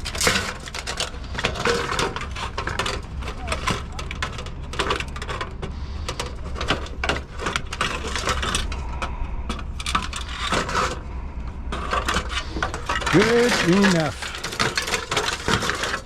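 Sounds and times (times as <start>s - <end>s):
scrap metal clinking and rattling: 0.0s - 16.0s
steady low hum: 0.0s - 16.0s.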